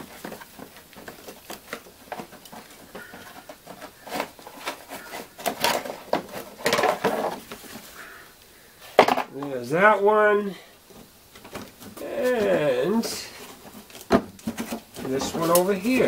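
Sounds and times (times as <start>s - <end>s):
plastic shield scraping and clattering: 0.0s - 7.9s, 10.9s - 16.0s.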